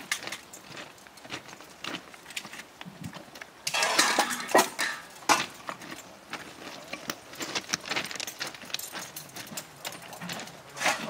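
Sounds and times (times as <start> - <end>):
hand tools clinking on steel: 0.0 - 2.8, 3.4 - 11.0.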